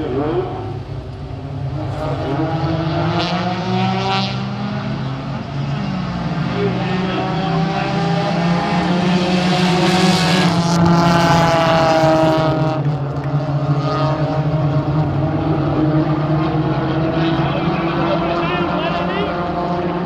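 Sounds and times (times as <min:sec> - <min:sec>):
car engine passing close: 0:00.0 - 0:20.0
racing car engines droning: 0:00.0 - 0:20.0.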